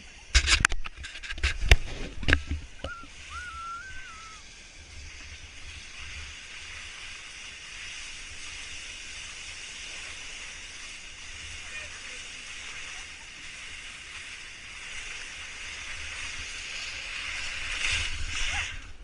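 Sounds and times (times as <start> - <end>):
sliding over packed snow: 0.0 - 19.0
wind rumble on microphone: 0.3 - 19.0.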